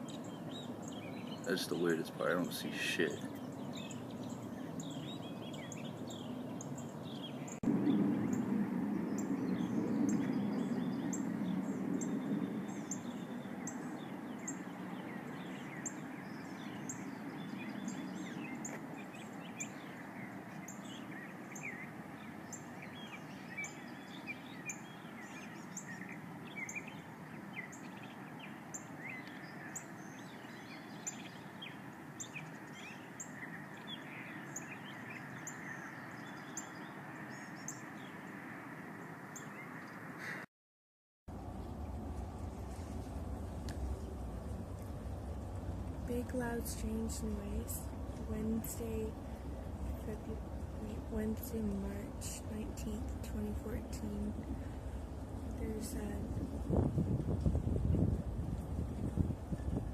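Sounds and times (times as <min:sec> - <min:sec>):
low roaring drone: 0:00.0 - 0:40.2, 0:41.3 - 0:59.9
birds chirping: 0:00.0 - 0:40.5, 0:41.5 - 0:59.9.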